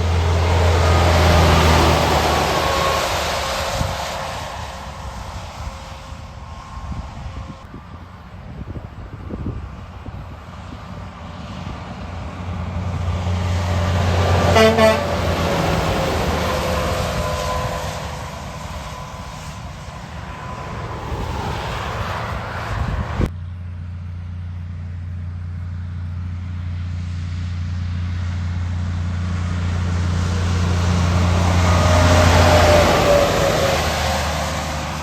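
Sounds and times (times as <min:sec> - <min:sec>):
heavy trucks driving past: 0:00.0 - 0:35.0.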